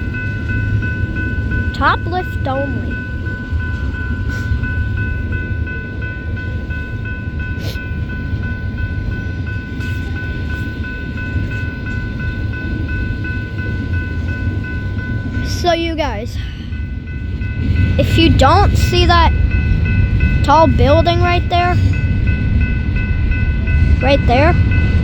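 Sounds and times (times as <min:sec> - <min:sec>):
freight train rumbling past: 0:00.0 - 0:25.0
high ringing tone: 0:00.0 - 0:25.0.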